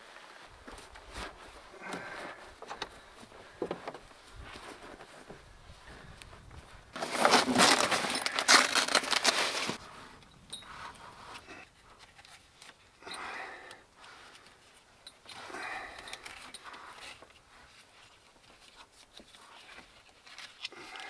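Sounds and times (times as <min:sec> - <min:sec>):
crinkling and rustling spray deck: 0:00.0 - 0:13.0, 0:14.0 - 0:21.0.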